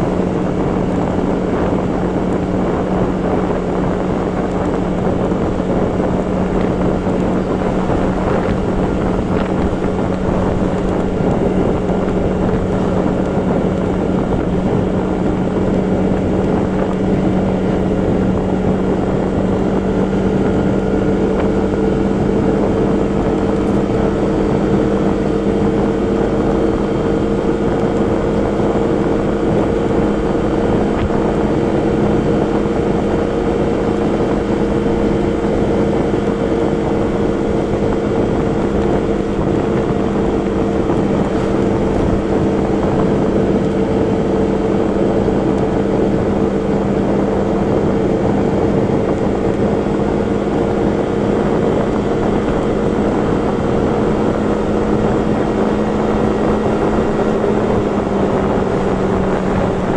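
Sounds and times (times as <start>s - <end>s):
road noise: 0.0s - 59.9s
vehicle engine cruising: 0.0s - 59.9s
wind: 0.0s - 59.9s.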